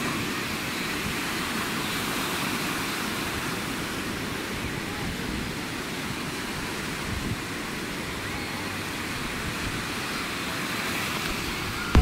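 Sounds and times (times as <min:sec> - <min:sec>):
sea surf washing on sand: 0:00.0 - 0:12.0.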